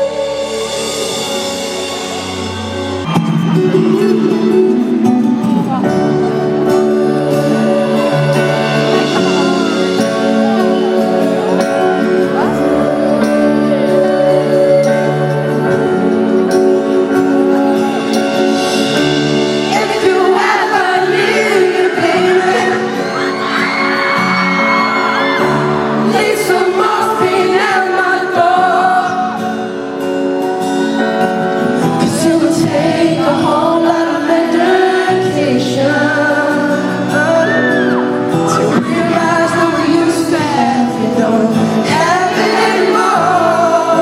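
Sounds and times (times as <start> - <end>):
keyboard chords: 0.0 - 44.0
male singer vocal runs: 3.4 - 23.5, 25.9 - 29.8, 31.8 - 44.0.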